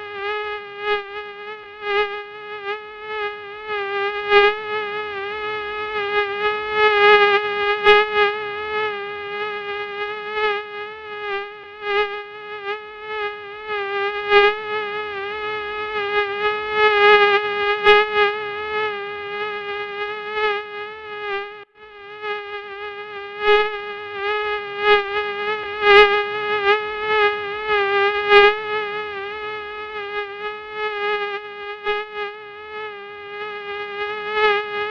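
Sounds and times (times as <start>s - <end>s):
mosquito wing whine: 0.0s - 34.9s.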